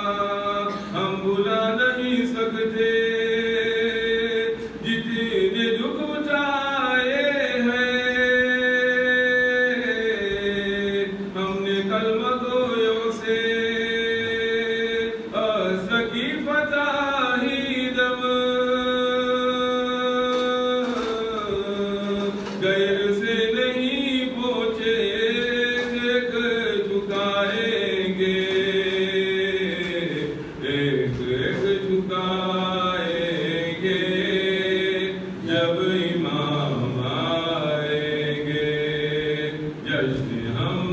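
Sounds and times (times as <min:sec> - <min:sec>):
man chanting: 0:00.0 - 0:40.9.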